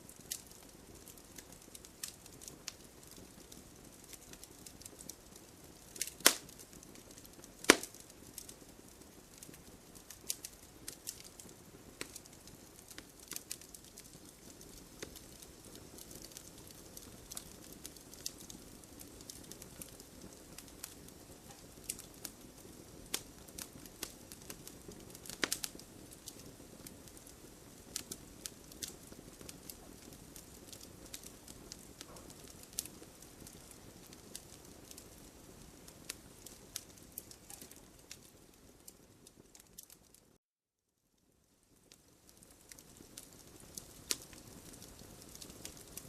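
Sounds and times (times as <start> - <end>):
hiss of burning: 0.0 - 40.2, 41.8 - 46.0
wood fire crackling: 0.0 - 40.4, 41.2 - 46.0.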